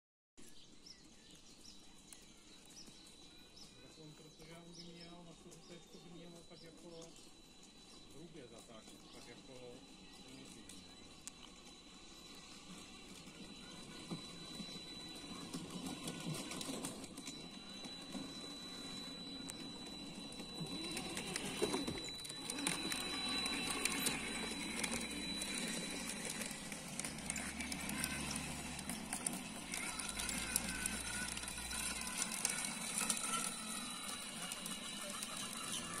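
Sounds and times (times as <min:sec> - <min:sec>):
model tank motors whining: 0:00.5 - 0:36.0.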